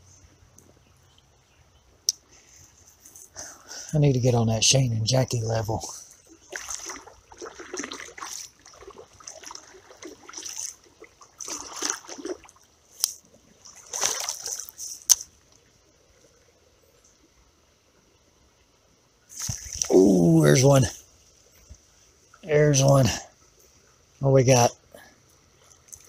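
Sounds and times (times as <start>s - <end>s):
creek water trickling: 0.0s - 26.0s.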